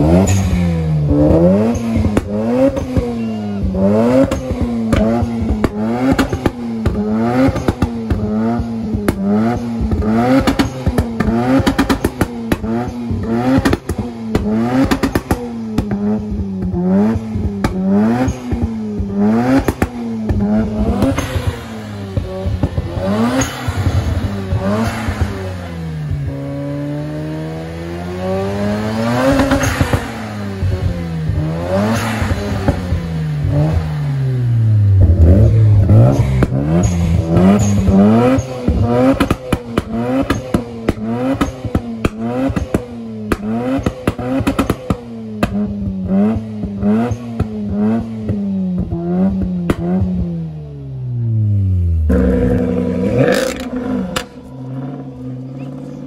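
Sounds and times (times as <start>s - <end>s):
exhaust crackles: 0.0s - 56.0s
sports car engine revving: 0.0s - 56.0s.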